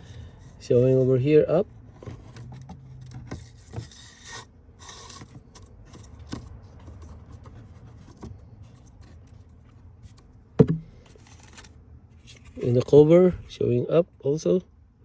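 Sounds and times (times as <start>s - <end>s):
air filter scraping in housing: 0.0s - 13.5s.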